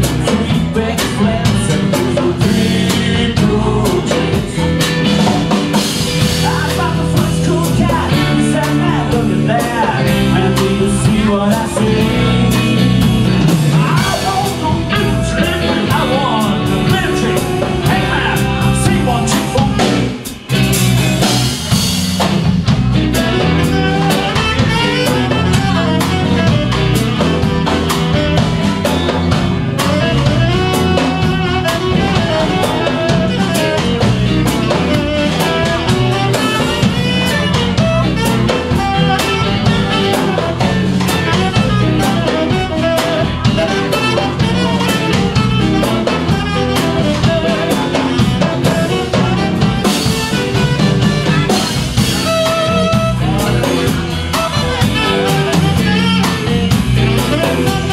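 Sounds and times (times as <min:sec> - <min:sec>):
drum kit: 0:00.0 - 0:57.9
electric guitars: 0:00.0 - 0:57.9
saxophone: 0:00.0 - 0:57.9.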